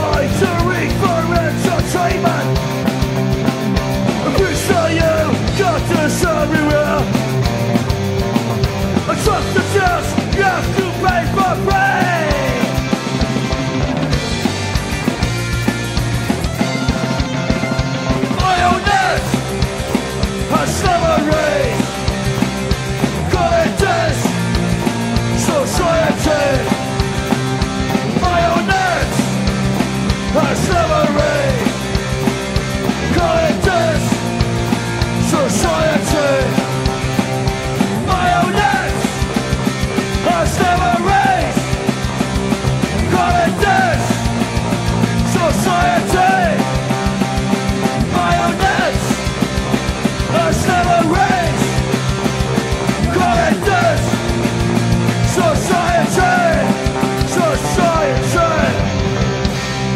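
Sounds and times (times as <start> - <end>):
loud punk rock song: 0.0 - 59.9.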